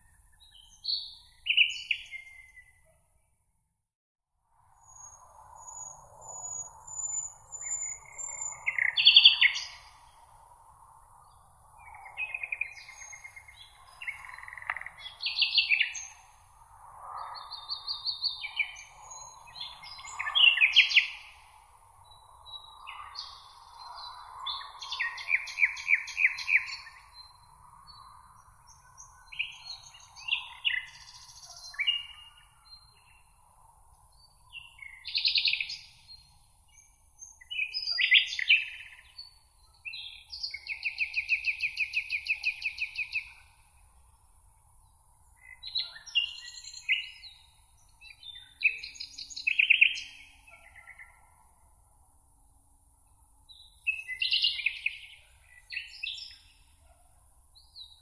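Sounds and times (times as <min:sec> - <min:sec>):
songbirds singing and chirping: 0:00.0 - 0:03.0, 0:04.8 - 0:58.0
faint high-pitched hiss: 0:04.7 - 0:58.0.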